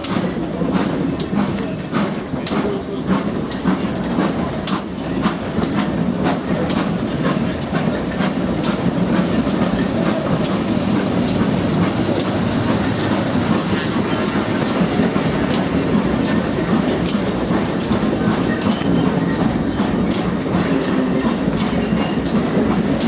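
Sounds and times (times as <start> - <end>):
train wheels rumbling on rails: 0.0 - 23.0
wheels clicking over rail joints: 0.0 - 23.0.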